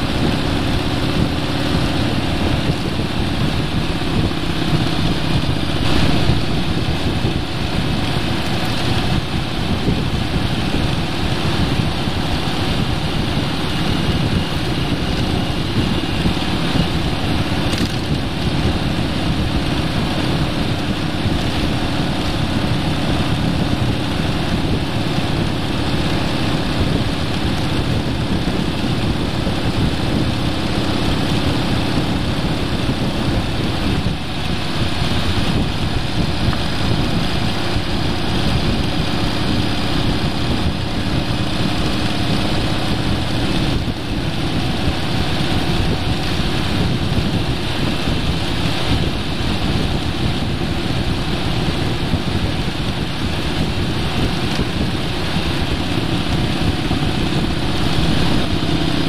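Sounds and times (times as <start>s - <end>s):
vehicle engine and tyre noise: 0.0s - 59.0s.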